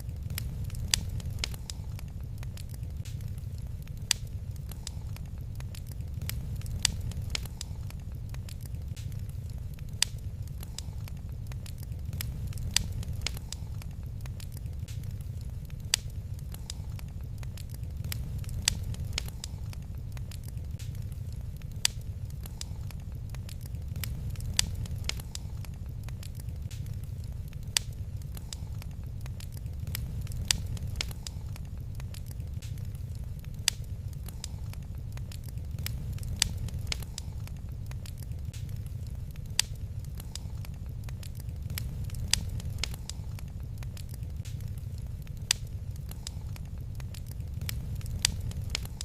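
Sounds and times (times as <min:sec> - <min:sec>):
fire popping: 0:00.0 - 0:49.0
wood fire crackling: 0:00.0 - 0:49.0.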